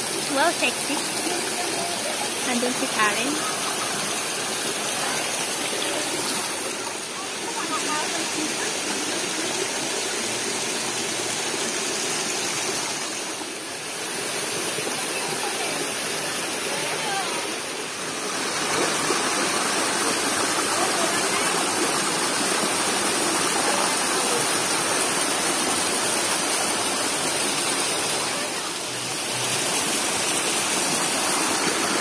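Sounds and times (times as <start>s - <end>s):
stream rushing over stones: 0.0s - 32.0s
water spilling over cascade: 0.0s - 32.0s.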